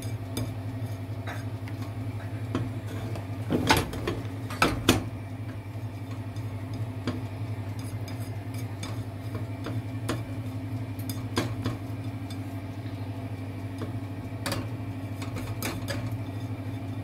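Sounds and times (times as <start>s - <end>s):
skewer swirling through batter: 0.0s - 17.0s
steady low hum: 0.0s - 17.0s.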